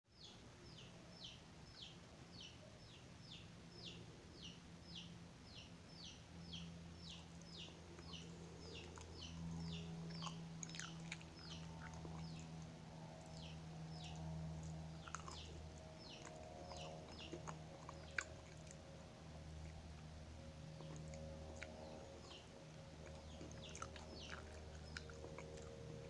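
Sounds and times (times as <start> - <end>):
bird chirping: 0.1 - 26.0
steady low hum: 0.2 - 26.0.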